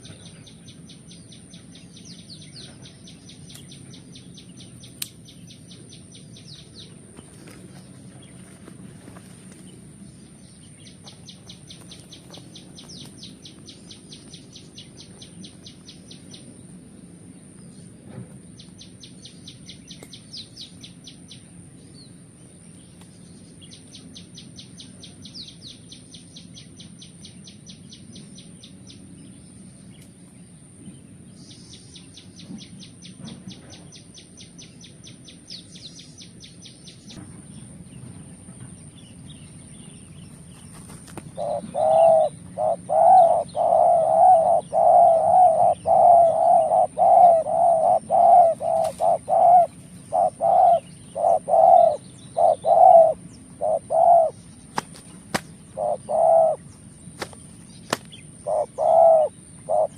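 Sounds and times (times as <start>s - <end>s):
low background rumble: 0.0s - 59.9s.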